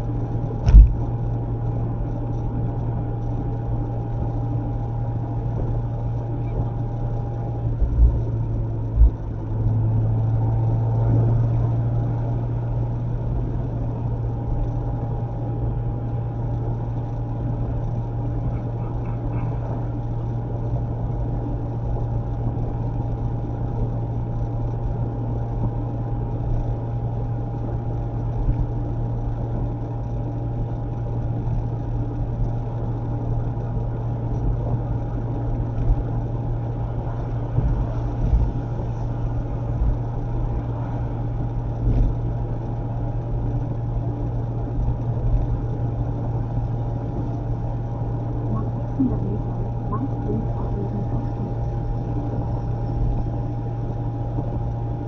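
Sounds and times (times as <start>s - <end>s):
car engine droning: 0.0s - 55.0s
road noise: 0.0s - 55.0s.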